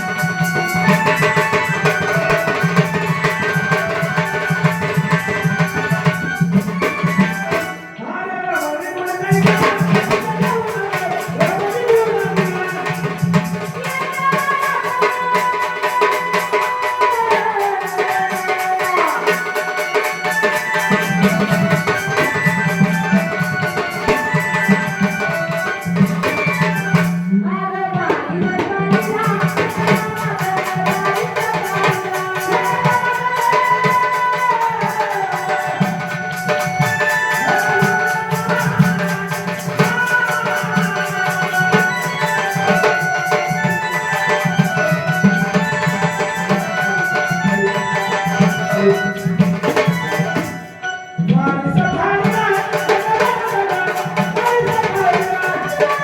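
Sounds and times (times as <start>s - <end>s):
jingling hand percussion: 0.0s - 56.0s
tabla: 0.0s - 56.0s.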